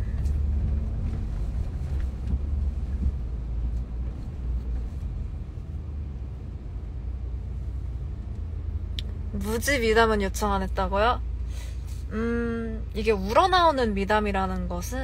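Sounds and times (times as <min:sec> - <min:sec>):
low road rumble in car cabin: 0:00.0 - 0:15.0.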